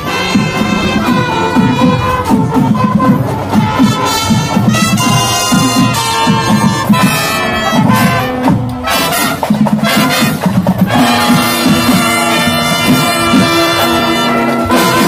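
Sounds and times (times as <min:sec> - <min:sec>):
brass melody: 0:00.0 - 0:15.0
drum hits: 0:00.0 - 0:15.0.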